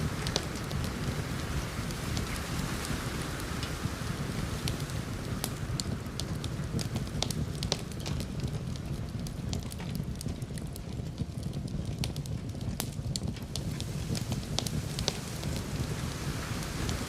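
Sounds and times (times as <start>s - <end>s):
fireplace crackling: 0.0s - 17.0s.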